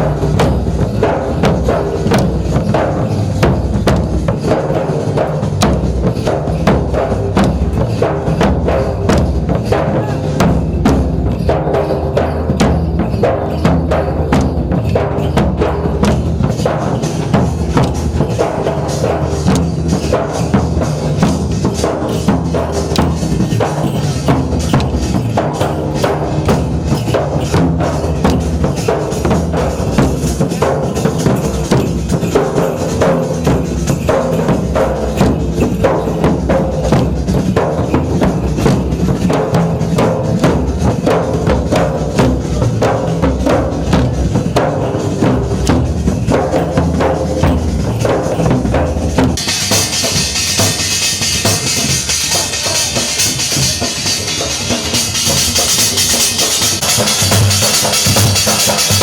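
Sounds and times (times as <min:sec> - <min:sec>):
drum steady beat: 0:00.0 - 0:59.0.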